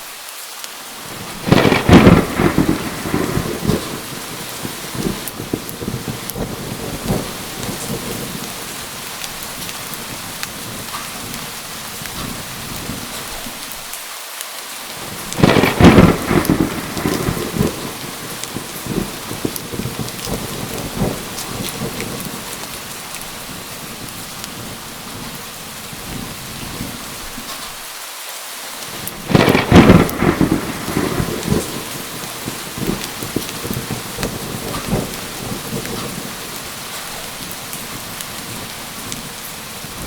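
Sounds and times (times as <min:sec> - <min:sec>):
heavy rain falling: 0:00.0 - 0:40.0
rolling thunder: 0:01.1 - 0:13.4, 0:15.0 - 0:27.6, 0:28.9 - 0:40.0.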